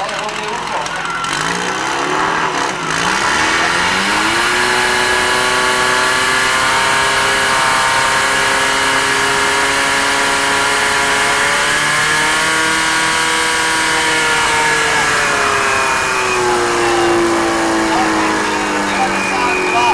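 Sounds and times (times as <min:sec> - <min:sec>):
pump engine running: 0:00.0 - 0:19.9.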